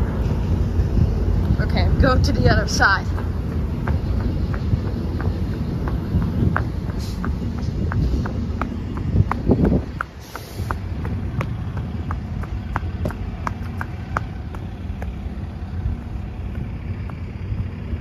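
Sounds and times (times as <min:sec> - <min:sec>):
low rumble: 0:00.0 - 0:18.0
footsteps on wet concrete: 0:02.6 - 0:18.0.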